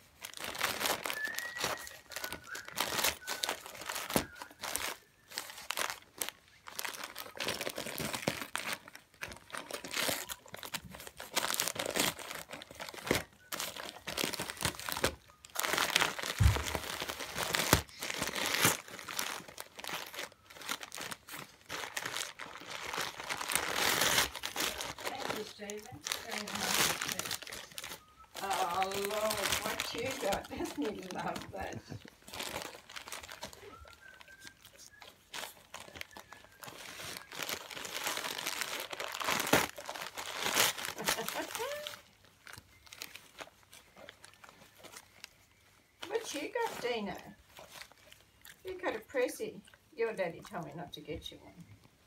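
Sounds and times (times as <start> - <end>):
wrapping paper ripping: 0.0 - 49.4.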